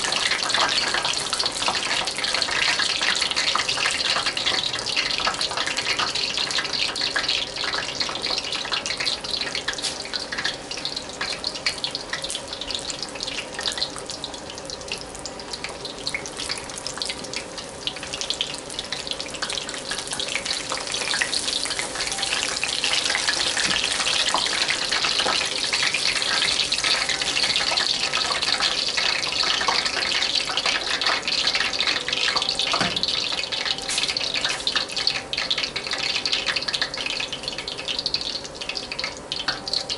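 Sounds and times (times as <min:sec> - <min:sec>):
deep-frying crackling sizzle: 0:00.0 - 0:39.9.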